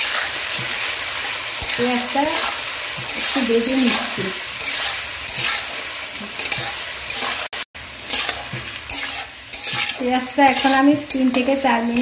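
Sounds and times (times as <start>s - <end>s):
metal spatula scraping pan: 0.0s - 12.0s
onions sizzling in oil: 0.0s - 12.0s.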